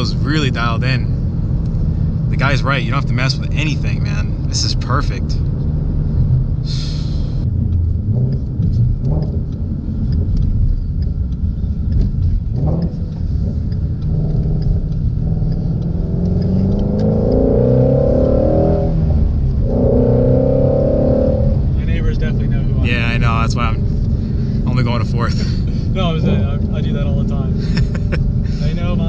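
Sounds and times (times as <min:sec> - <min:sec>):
car engine rumbling and revving: 0:00.0 - 0:29.0.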